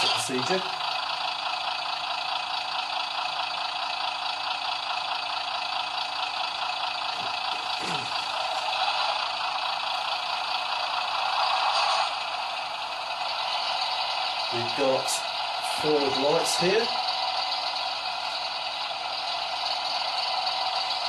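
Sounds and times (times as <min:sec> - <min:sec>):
diesel railcar engine through small speaker: 0:00.0 - 0:21.0.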